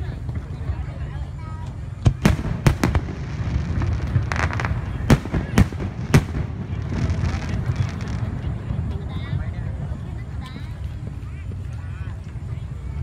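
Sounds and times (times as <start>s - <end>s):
fireworks bursting with bangs: 0.0s - 11.6s.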